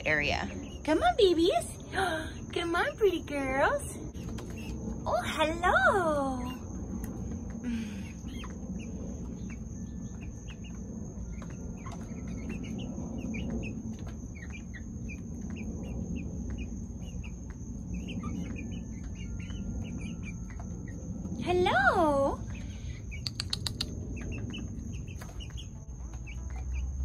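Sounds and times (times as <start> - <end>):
chicks peeping and chirping: 0.0 - 27.0.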